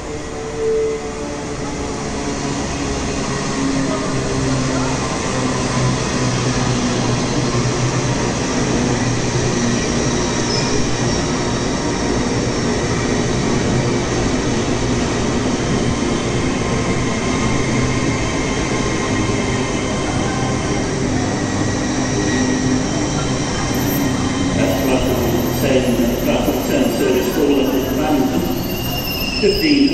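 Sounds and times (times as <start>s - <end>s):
train running hum: 0.0s - 29.9s.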